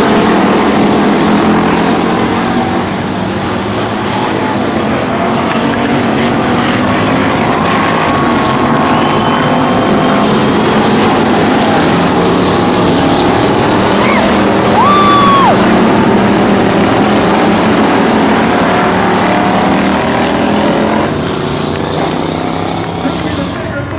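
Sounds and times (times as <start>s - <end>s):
stock car engines racing: 0.0s - 23.9s.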